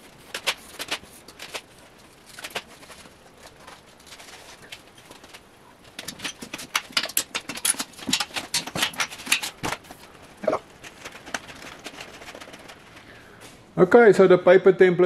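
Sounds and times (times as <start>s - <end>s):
paper rustling and crackling: 0.0s - 13.6s.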